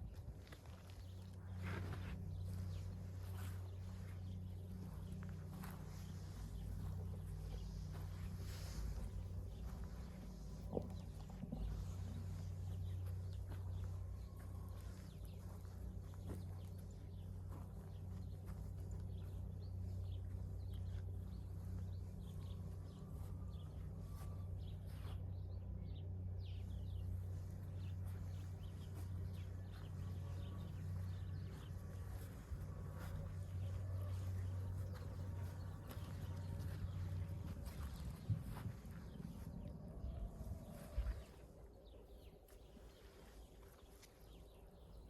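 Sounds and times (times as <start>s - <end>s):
chickens and small birds chirping: 0.0s - 45.0s
steady low hum: 0.0s - 45.0s.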